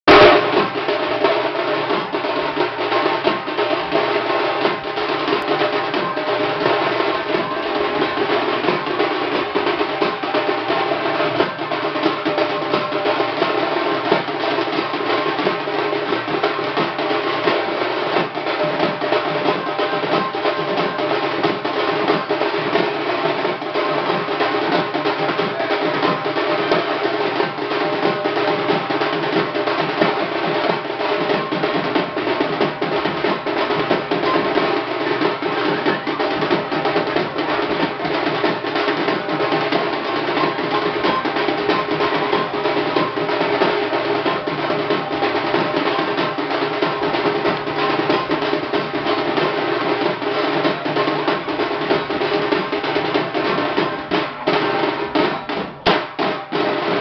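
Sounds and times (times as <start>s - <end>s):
drums playing fast rolls: 0.0s - 57.0s.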